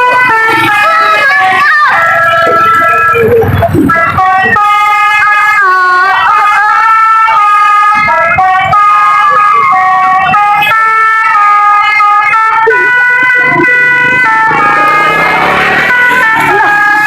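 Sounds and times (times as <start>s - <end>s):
musical bus horn melody: 0.0s - 17.0s.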